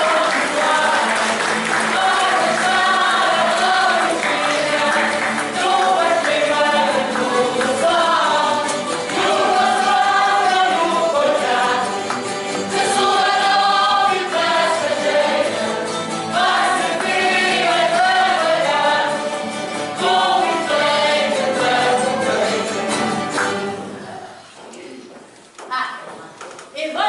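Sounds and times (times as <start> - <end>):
group singing like a choir: 0.0 - 24.2
musical accompaniment: 0.0 - 24.3.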